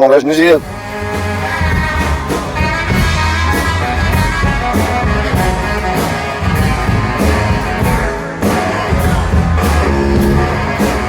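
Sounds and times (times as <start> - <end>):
live rock band playing: 0.3 - 11.0
baritone sax low notes: 0.4 - 11.0
steady drum beat: 0.4 - 11.0.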